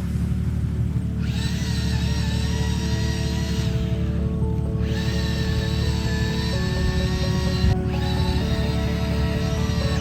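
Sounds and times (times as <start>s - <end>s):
background music: 1.8s - 10.0s.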